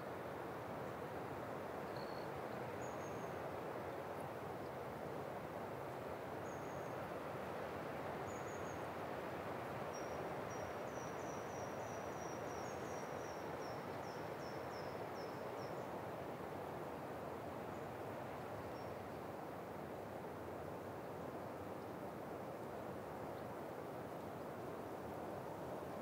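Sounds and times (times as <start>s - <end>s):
wind in pine trees: 0.0s - 26.0s.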